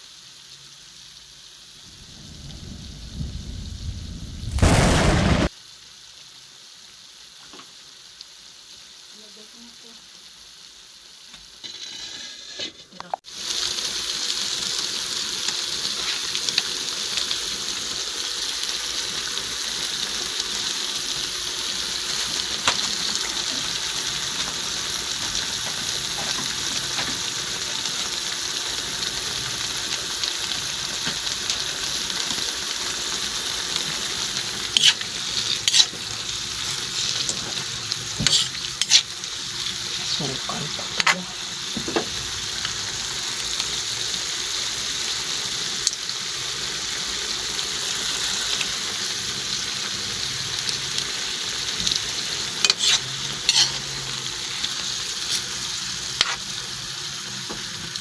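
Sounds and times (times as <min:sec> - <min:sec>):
food sizzling in hot pan: 0:00.0 - 0:58.0.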